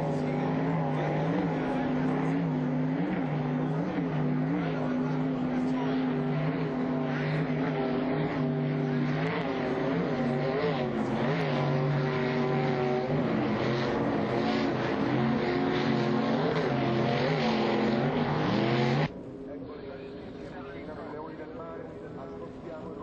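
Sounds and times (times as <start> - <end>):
racing powerboat engines: 0.0 - 23.0.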